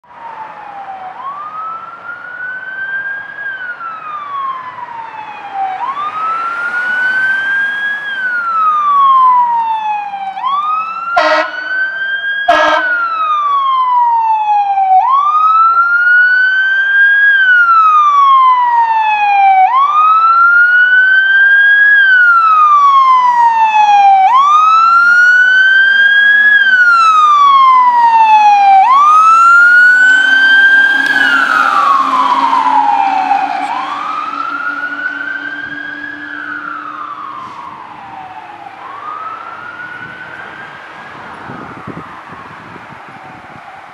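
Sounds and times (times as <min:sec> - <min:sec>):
fire engine siren wailing: 0:00.0 - 0:43.9
short siren blasts: 0:00.1 - 0:16.8, 0:17.4 - 0:43.9.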